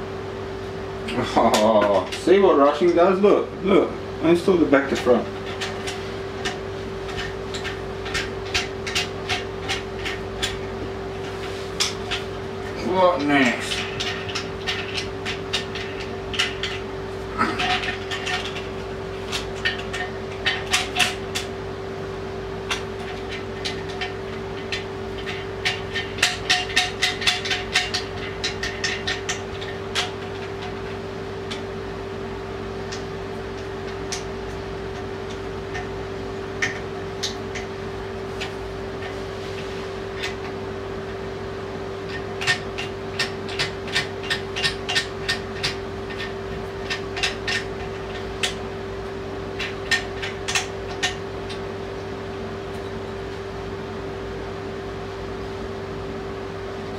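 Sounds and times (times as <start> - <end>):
steady hum: 0.0 - 56.9.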